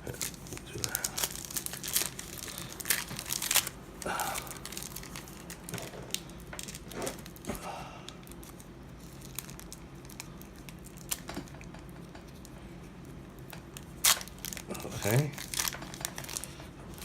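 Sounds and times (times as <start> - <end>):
plastic wrapper crinkling: 0.0 - 7.5, 8.2 - 11.5, 13.4 - 17.0.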